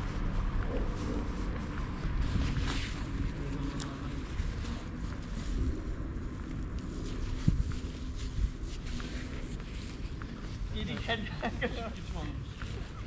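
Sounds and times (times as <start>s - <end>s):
wind buffeting microphone: 0.0s - 11.0s
low outdoor rumble: 0.0s - 13.0s.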